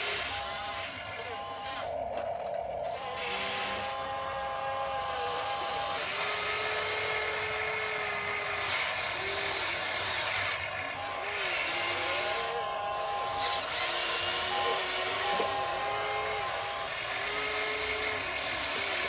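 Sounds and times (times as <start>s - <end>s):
small electric motors whining: 0.0s - 19.0s.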